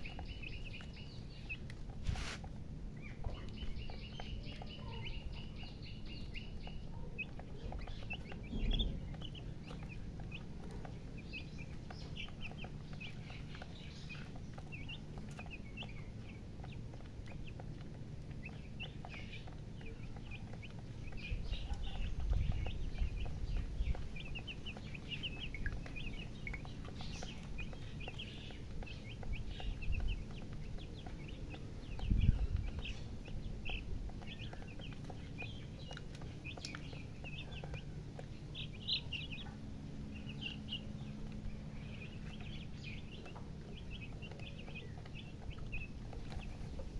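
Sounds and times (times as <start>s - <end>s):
baby chicks peeping: 0.0s - 46.9s
low rumbles: 2.6s - 46.9s.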